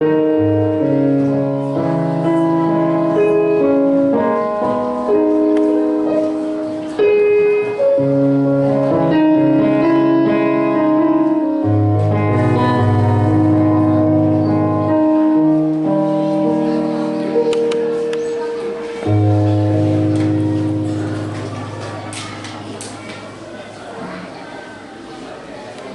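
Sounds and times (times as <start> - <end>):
keyboard playing slow chords: 0.0 - 23.6.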